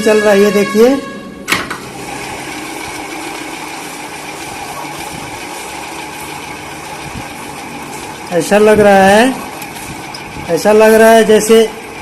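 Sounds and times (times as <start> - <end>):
ceiling fan grinding rattle: 1.4 - 12.0.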